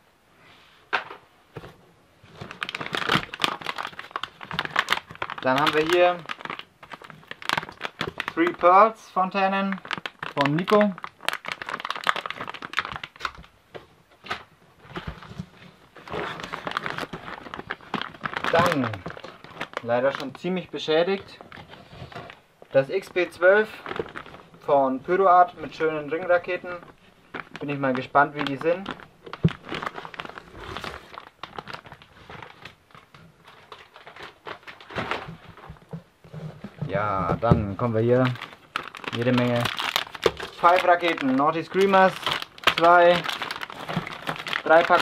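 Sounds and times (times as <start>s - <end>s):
plastic packaging crinkling: 2.2s - 45.0s.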